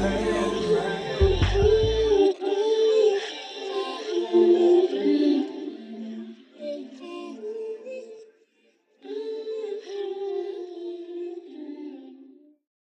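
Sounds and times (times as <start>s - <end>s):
soft layered singing: 0.0s - 8.4s, 9.0s - 12.5s.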